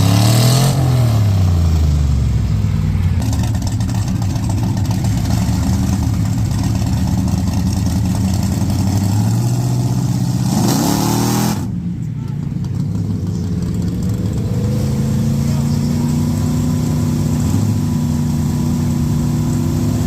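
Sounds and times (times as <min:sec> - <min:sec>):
mud truck engine revving: 0:00.0 - 0:20.0.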